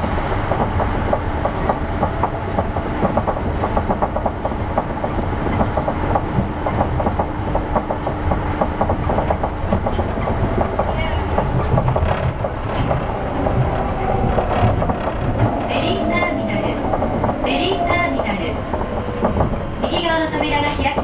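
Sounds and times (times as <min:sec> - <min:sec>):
train cabin rumble with clicking: 0:00.0 - 0:21.0.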